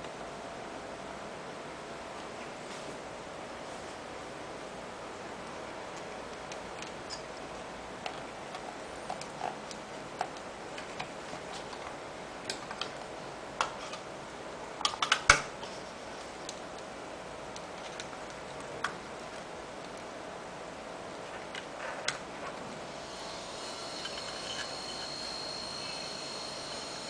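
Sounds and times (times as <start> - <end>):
hard drive whine: 0.0 - 27.0.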